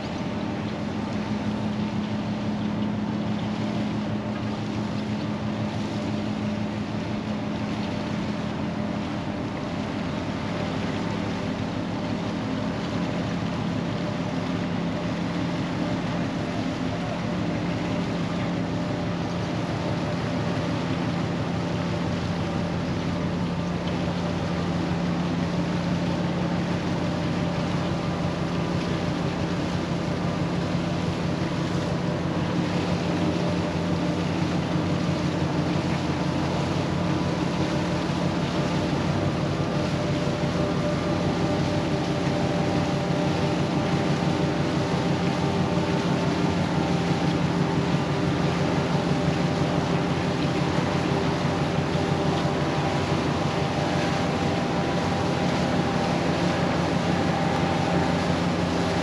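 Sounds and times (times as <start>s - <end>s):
ship engine humming: 0.0s - 59.0s.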